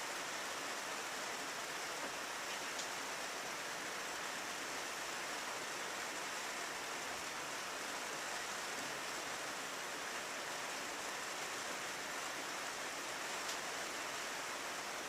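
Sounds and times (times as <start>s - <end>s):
steady rain on a window: 0.0s - 15.0s.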